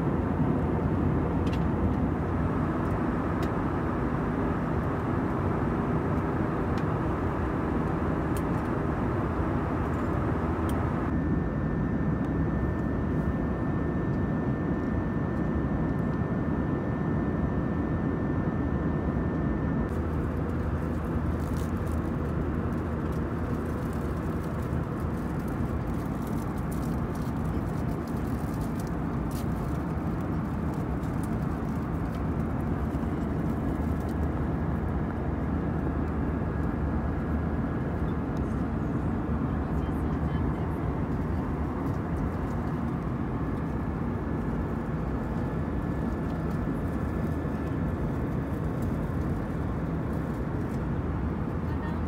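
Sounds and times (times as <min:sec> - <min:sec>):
airplane cabin rumble: 0:00.0 - 0:52.0
faint steady whine: 0:00.0 - 0:52.0.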